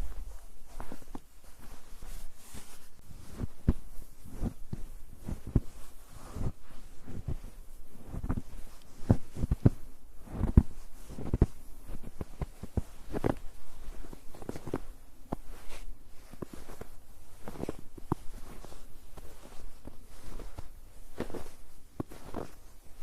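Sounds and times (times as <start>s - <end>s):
footsteps crunching in snow: 0.0s - 23.0s.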